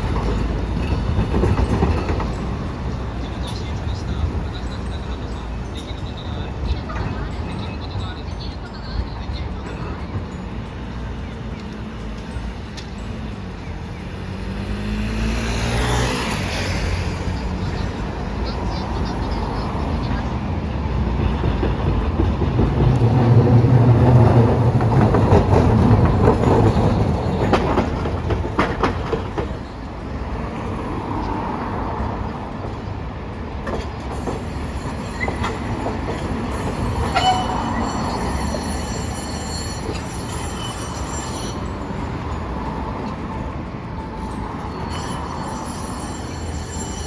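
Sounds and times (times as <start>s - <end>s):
streetcar rumbling: 0.0s - 47.0s
wheels clicking over rail joints: 0.0s - 47.0s.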